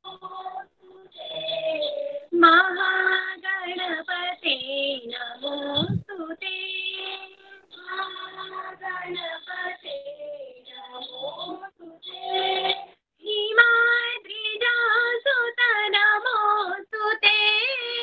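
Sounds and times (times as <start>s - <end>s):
child singing devotional song: 0.0s - 18.0s.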